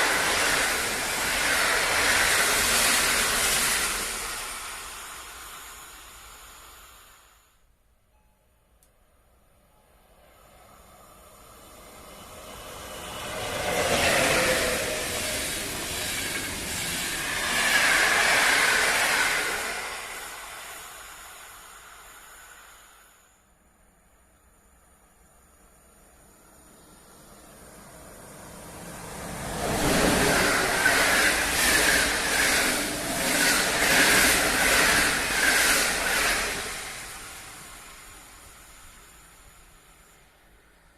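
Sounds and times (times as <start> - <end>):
train passing wheel and rail noise: 0.0 - 40.9.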